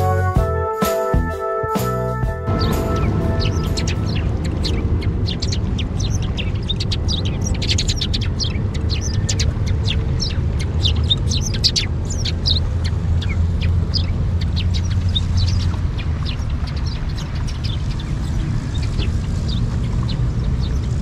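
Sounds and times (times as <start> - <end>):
steady low rumble: 1.8 - 21.0
small birds chirping: 2.5 - 21.0.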